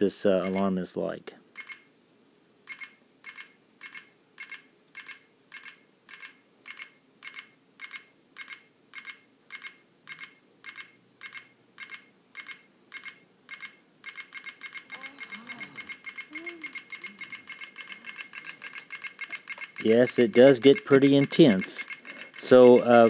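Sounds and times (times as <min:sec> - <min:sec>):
alarm clock beeping: 0:00.4 - 0:00.7, 0:01.6 - 0:01.9, 0:02.7 - 0:23.0.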